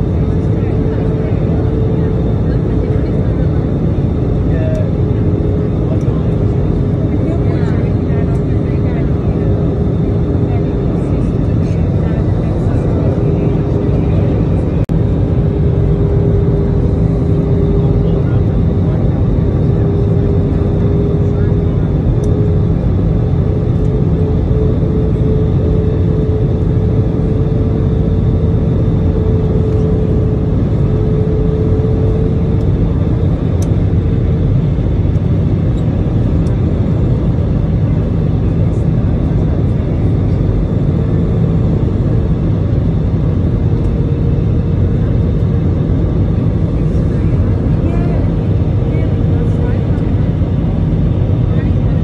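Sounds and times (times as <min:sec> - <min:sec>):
jet engine and airflow rush: 0:00.0 - 0:52.0
steady humming tone: 0:00.0 - 0:52.0.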